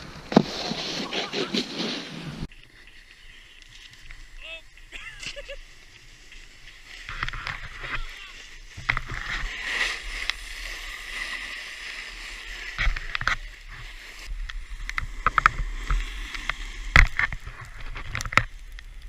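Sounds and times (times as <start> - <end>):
snowboard scraping over snow: 0.0 - 18.6.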